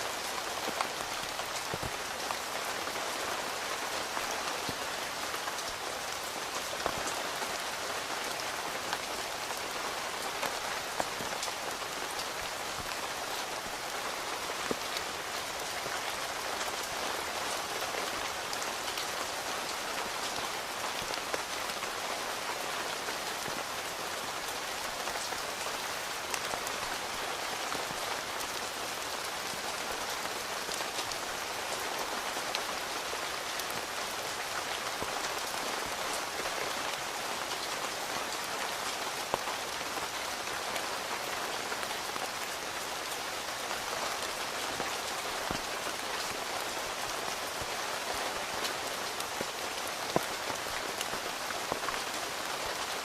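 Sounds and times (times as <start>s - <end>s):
rain falling on a tent: 0.0s - 53.0s.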